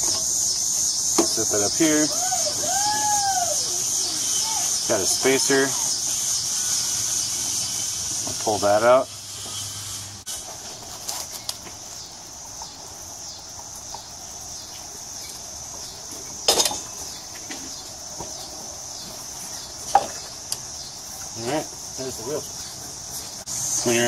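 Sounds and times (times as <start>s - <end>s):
high insect buzz: 0.0s - 24.0s.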